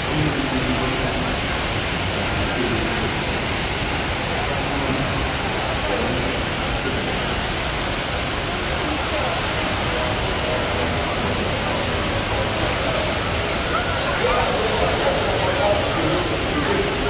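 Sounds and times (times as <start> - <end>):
faint voices: 0.0 - 17.0
waterfall pouring and splashing: 0.0 - 17.0.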